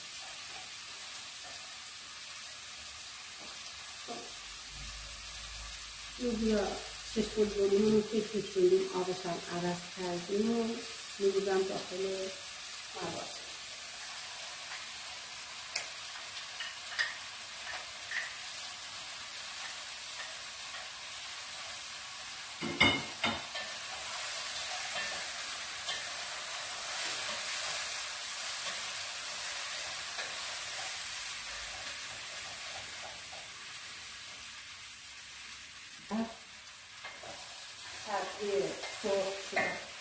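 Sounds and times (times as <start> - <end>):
chicken and onion sizzling in oil: 0.0 - 40.0.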